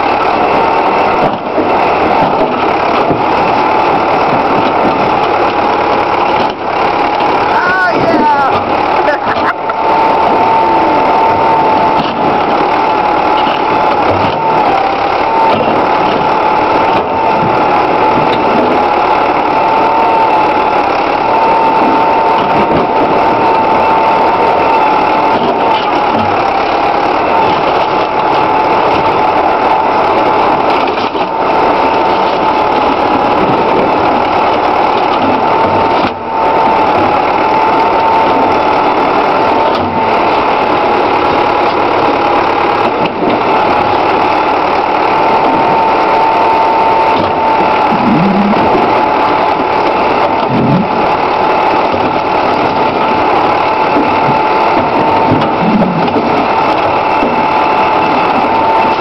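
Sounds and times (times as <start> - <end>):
backhoe engine running: 0.0 - 59.0
high wavering whine: 0.0 - 59.0.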